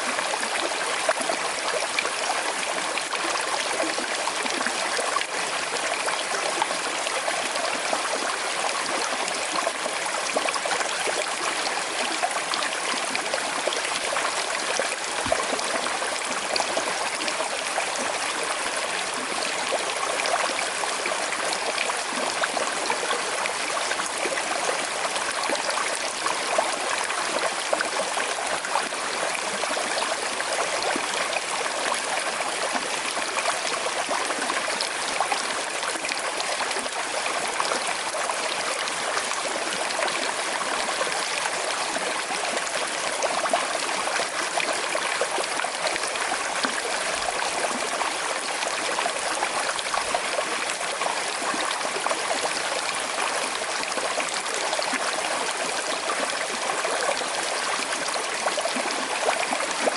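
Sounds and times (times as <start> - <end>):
river babbling over stones: 0.0 - 59.9.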